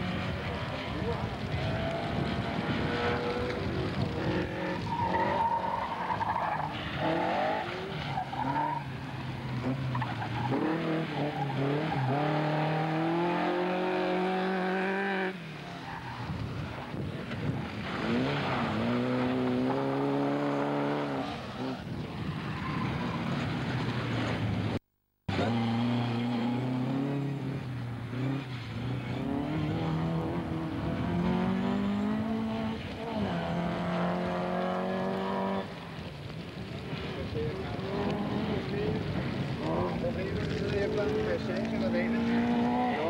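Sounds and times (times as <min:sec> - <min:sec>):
rally car engines revving: 0:00.0 - 0:43.0.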